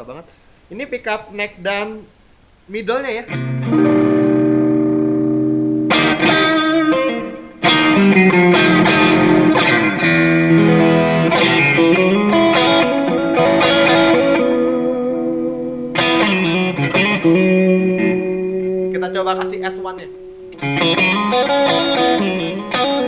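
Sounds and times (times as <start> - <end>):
electric guitar playing: 3.3 - 23.0.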